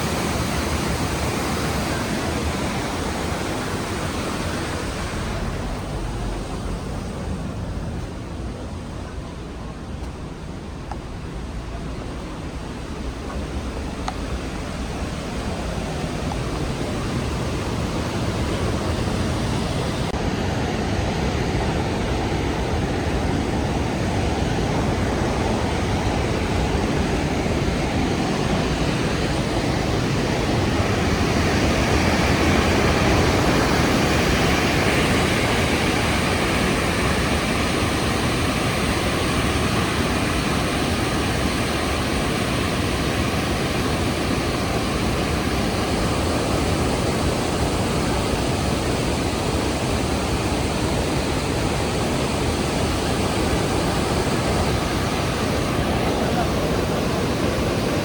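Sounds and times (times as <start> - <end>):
waterfall rushing: 0.0 - 9.2, 11.1 - 58.0.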